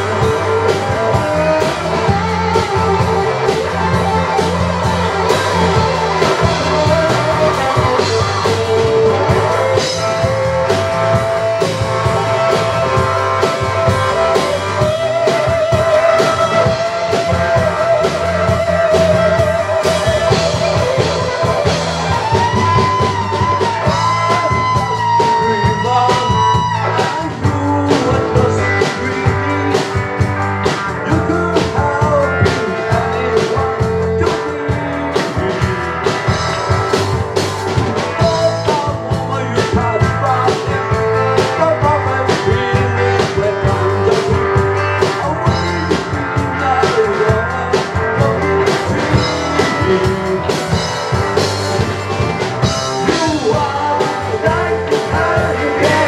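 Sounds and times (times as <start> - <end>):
drum kit: 0.0 - 56.0
electric guitar long bending notes: 0.0 - 56.0.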